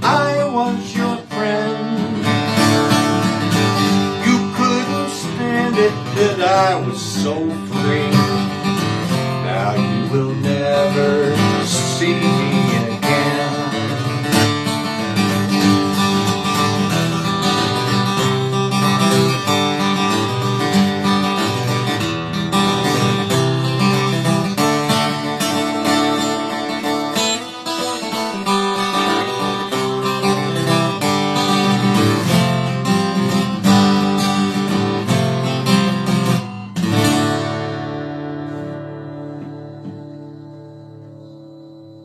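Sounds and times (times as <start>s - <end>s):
acoustic guitar playing: 0.0s - 42.0s.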